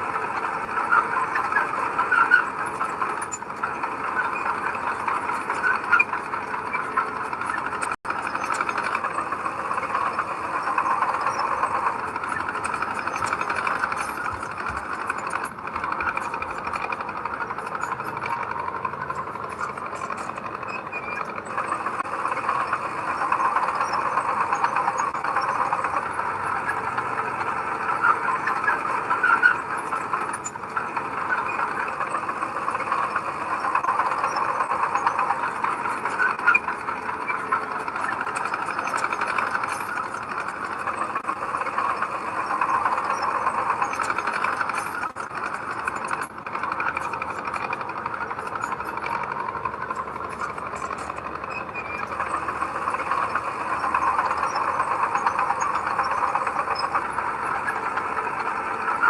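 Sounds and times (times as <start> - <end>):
earthmoving machinery diesel engine: 0.0 - 59.0.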